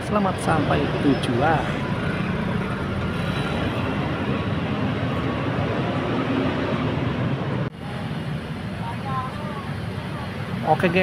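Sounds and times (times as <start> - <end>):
bus engine pulling away: 0.0 - 10.8
traffic rumble: 0.0 - 11.0.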